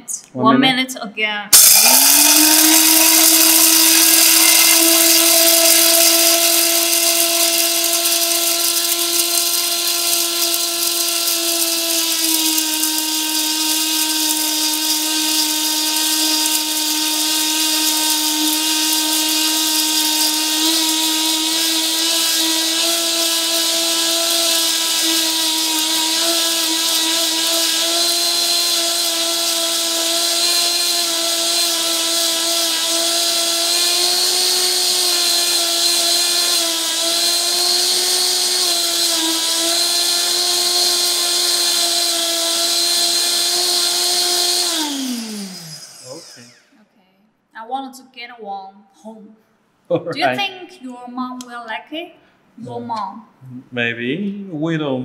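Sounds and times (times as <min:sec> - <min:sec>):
grinder motor pulverising beans: 0:01.5 - 0:46.8.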